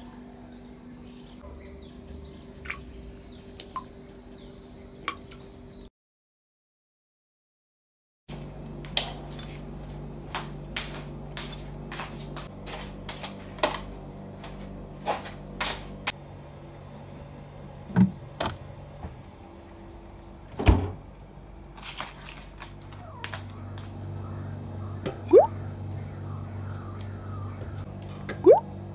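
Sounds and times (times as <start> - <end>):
low steady hum: 0.0 - 5.7, 8.3 - 28.9.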